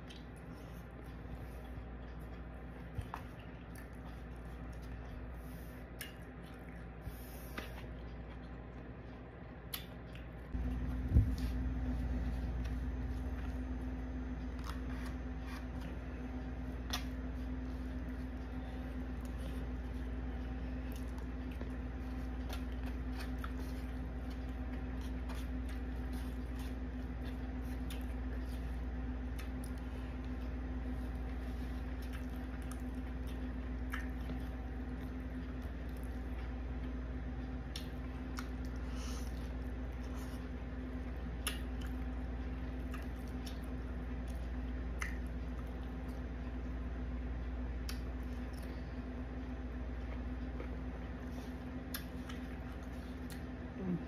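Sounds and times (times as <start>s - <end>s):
wet chewing: 0.0s - 46.6s, 47.7s - 53.8s
steady low hum: 0.0s - 54.0s.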